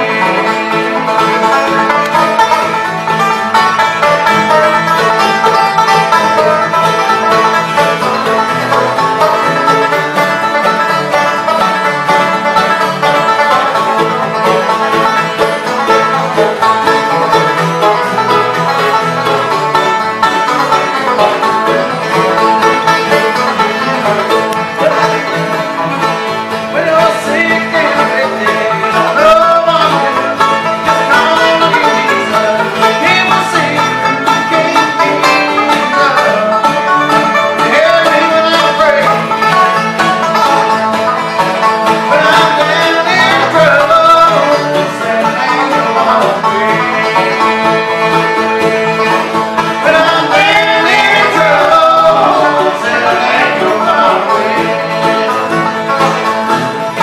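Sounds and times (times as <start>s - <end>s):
banjo picking: 0.0s - 57.0s
strummed acoustic guitars: 0.0s - 57.0s.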